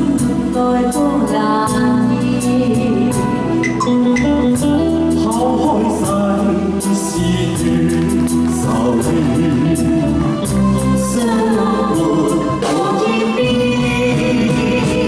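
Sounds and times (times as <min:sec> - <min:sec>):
man and woman singing pop duet: 0:00.0 - 0:03.4, 0:04.6 - 0:15.0
live band with electric guitar: 0:00.0 - 0:15.0.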